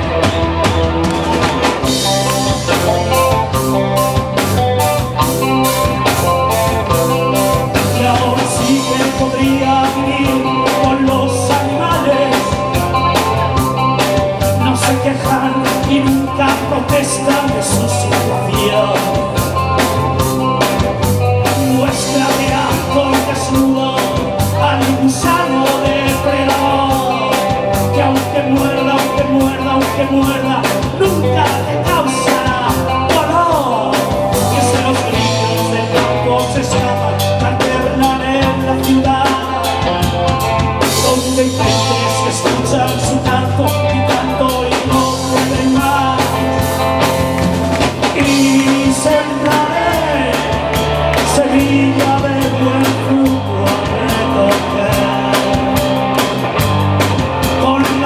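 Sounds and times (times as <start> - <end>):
bass guitar: 0.0 - 58.0
drum kit beat: 0.0 - 58.0
electric guitar: 0.0 - 58.0
man singing: 0.0 - 58.0.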